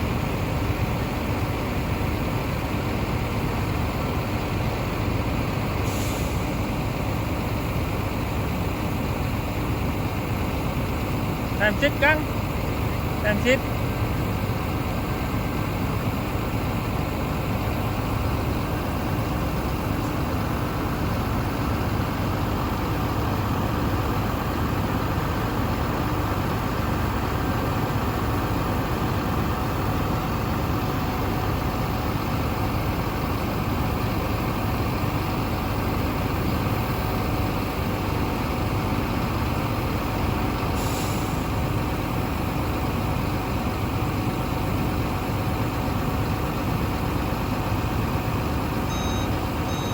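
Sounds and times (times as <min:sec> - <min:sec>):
diesel truck engine idling: 0:00.0 - 0:49.9.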